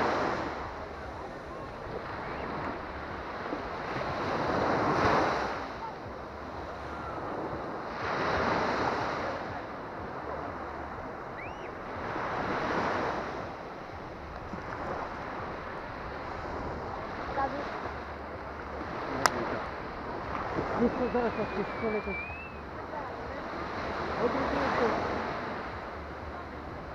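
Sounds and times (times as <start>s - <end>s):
small waves breaking on sand: 0.0s - 26.9s.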